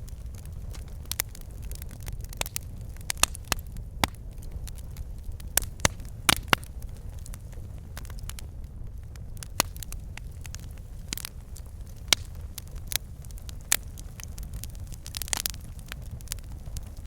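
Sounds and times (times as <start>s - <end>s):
fire low rumble: 0.0s - 17.0s
logs crackling and popping: 0.0s - 17.0s.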